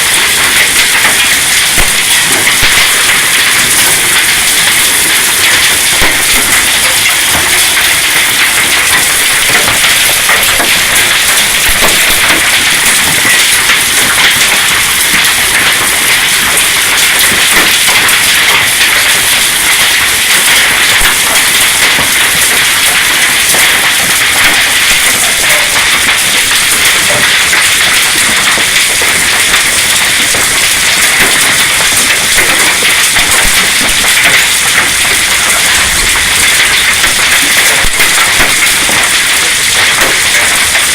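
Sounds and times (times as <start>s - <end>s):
hail and rain pelting: 0.0s - 40.9s.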